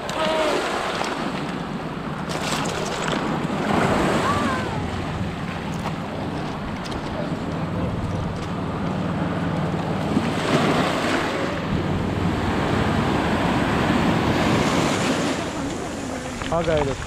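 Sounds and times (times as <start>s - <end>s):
waves washing on stony shore: 0.0s - 17.0s
wind buffeting microphone: 1.2s - 17.0s.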